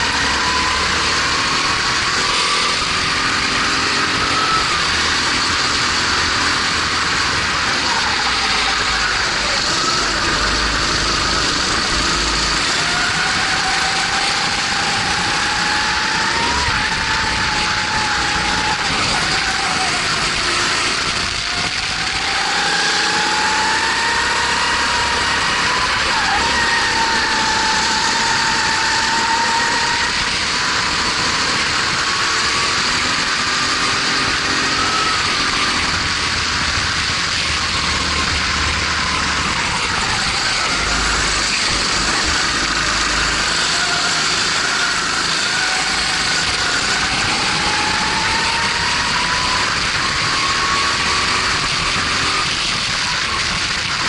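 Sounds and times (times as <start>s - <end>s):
kart engine revving: 0.0s - 54.0s
wind noise on microphone: 0.0s - 54.0s.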